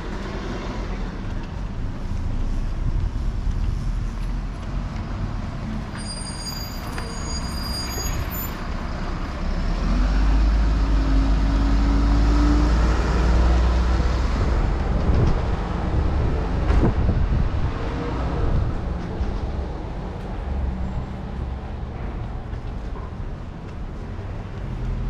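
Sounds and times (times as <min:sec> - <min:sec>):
bus engine passing by: 0:00.0 - 0:05.9, 0:06.8 - 0:25.0
street traffic: 0:00.0 - 0:25.0.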